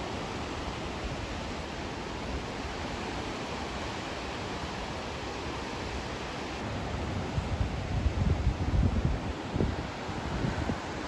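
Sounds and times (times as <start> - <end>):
ocean surf on rocky shore: 0.0 - 11.0.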